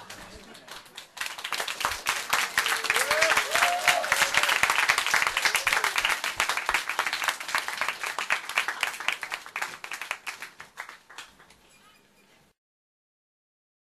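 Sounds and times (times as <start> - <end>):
applause: 0.0 - 11.7.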